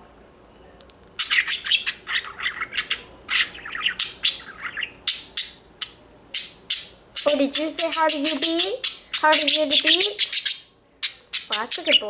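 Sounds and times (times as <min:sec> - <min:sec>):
budgerigar chattering: 0:01.2 - 0:12.0.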